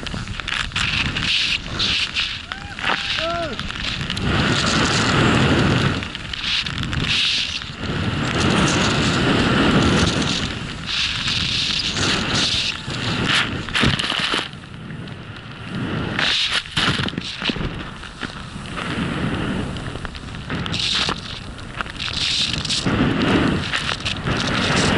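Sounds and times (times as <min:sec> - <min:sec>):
skis hissing through snow: 0:00.0 - 0:14.6, 0:15.6 - 0:24.9
wind on microphone: 0:00.0 - 0:24.9.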